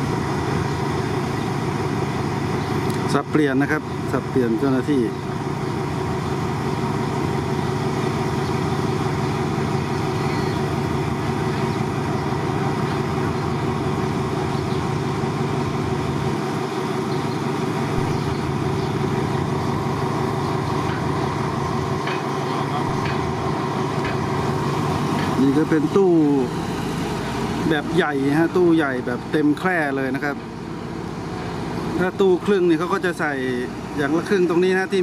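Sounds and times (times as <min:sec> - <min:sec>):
diesel locomotive engine running: 0:00.0 - 0:35.0.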